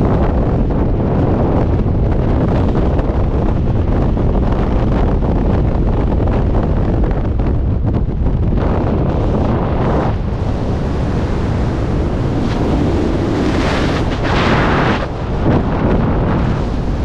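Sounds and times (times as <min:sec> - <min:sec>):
freefall wind buffeting microphone: 0:00.0 - 0:17.0.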